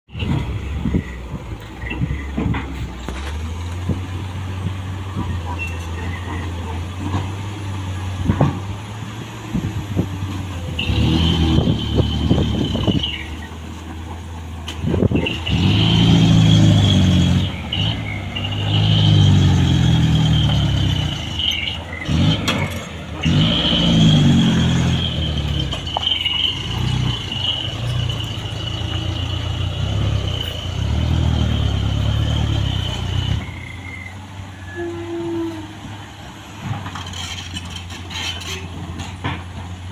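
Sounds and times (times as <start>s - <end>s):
heavy diesel engine revving: 0.1s - 39.9s.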